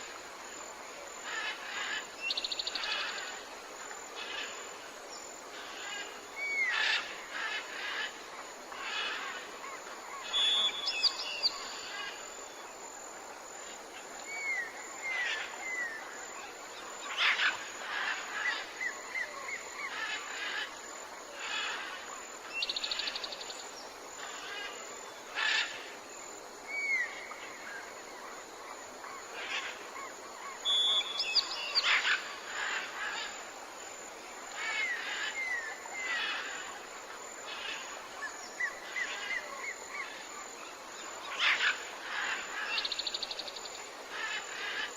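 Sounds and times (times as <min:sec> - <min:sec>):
forest ambience hiss: 0:00.0 - 0:44.9.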